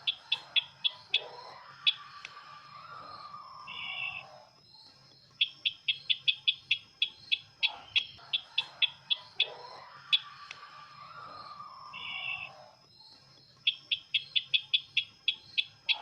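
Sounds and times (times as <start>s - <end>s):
bird call sharp high chirps: 0.0s - 4.4s, 5.4s - 12.6s, 13.6s - 16.0s.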